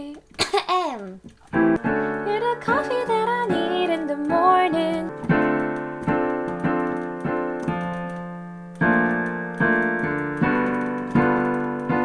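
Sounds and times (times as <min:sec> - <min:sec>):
digital piano chords: 0:01.2 - 0:12.0.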